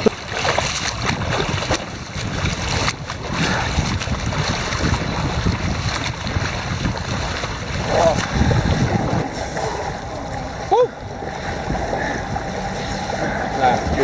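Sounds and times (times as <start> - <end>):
swimmers splashing: 0.0 - 14.0
water sloshing and lapping: 0.0 - 14.0
wind rumbling on microphone: 0.0 - 14.0.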